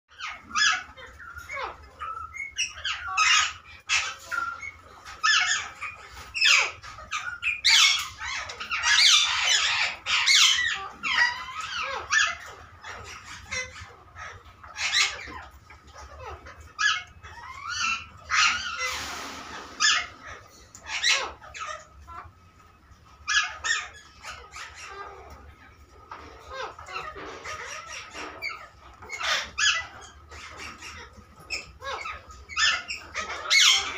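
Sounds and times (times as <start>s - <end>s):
parrots screeching and squawking: 0.1s - 33.9s.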